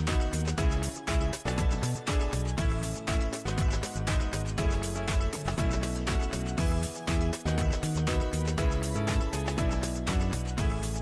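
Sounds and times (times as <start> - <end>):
background music with steady beat: 0.0 - 11.0
deep sliding bass: 0.0 - 11.0.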